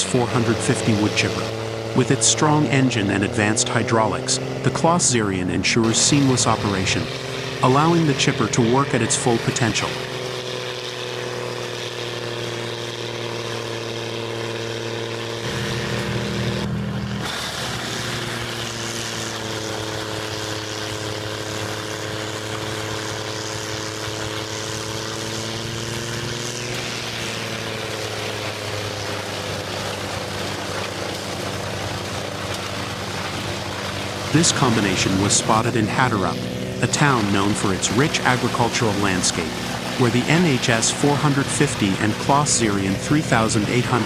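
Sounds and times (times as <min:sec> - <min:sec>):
wood chipper engine droning: 0:00.0 - 0:44.0.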